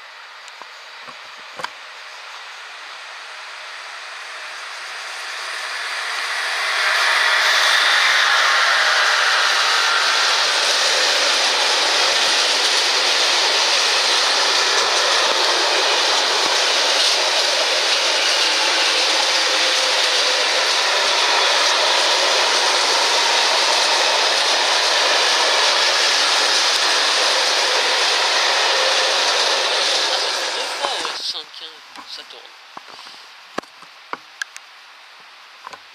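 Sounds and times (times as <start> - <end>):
freight train wheels on rail: 0.0 - 31.2.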